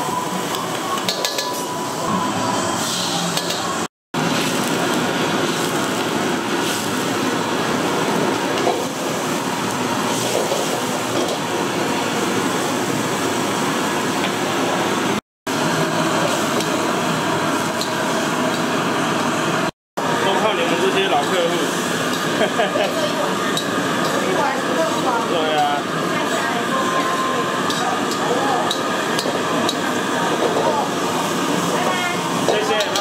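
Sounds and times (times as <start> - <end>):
street food cooking noise: 0.0 - 33.0.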